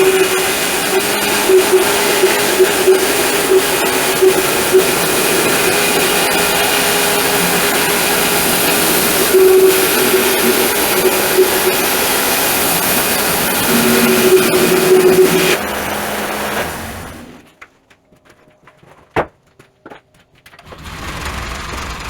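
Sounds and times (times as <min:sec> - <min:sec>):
sawmill milling a log: 0:00.0 - 0:17.5, 0:20.6 - 0:22.0.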